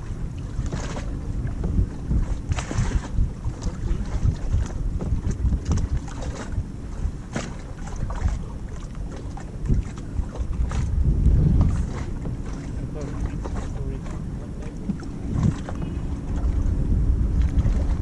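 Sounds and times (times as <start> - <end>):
paddle splashing in water: 0.0 - 18.0
wind buffeting microphone: 0.0 - 18.0.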